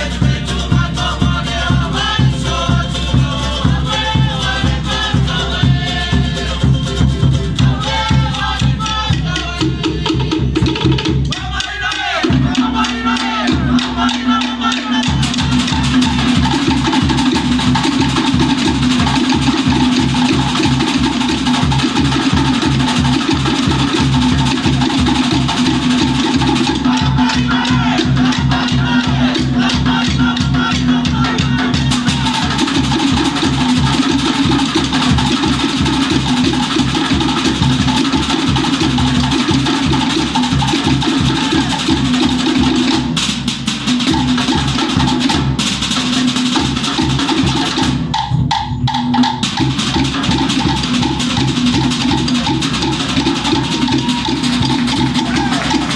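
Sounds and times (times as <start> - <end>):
deep skin drum beating: 0.0 - 55.9
slit log drums struck rapidly: 0.0 - 55.9.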